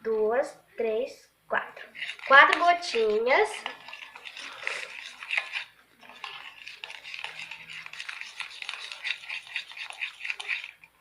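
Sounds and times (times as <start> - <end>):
utensil scraping a bowl: 1.8 - 11.0.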